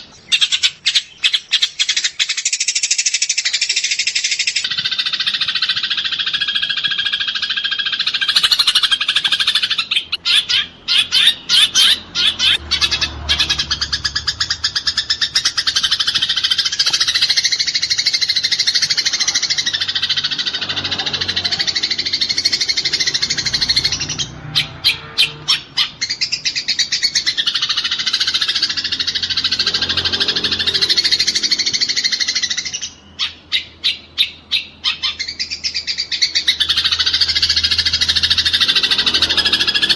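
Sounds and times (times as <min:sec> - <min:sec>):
sparrows chattering: 0:00.0 - 0:39.9.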